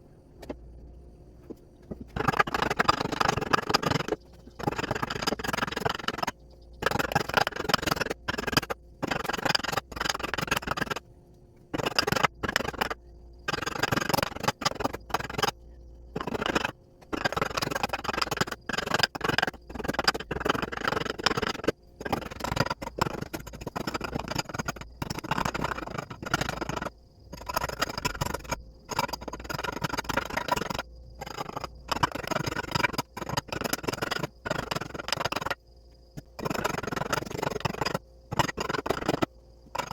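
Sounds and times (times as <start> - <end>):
hand tool scraping: 1.9 - 11.0, 11.8 - 15.6, 16.2 - 35.6, 36.2 - 39.9.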